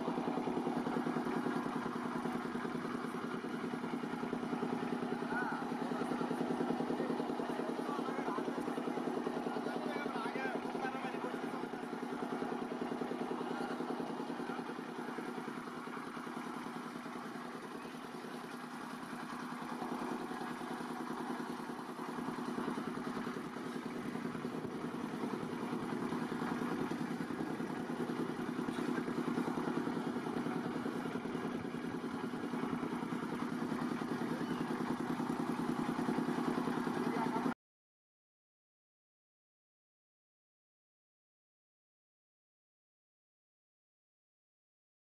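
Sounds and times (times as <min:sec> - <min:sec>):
engine running steadily: 0:00.0 - 0:37.6.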